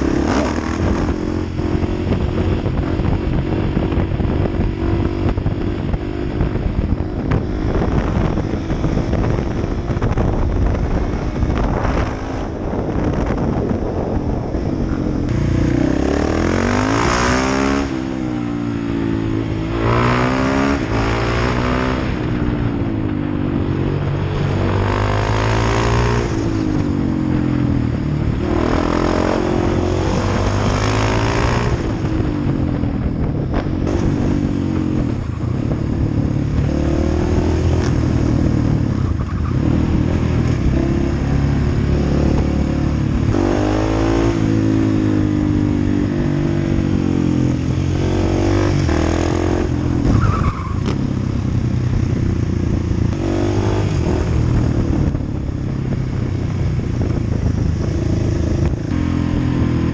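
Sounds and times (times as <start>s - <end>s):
motorcycle engine accelerating: 0.0s - 59.9s
wind on microphone: 0.0s - 59.9s.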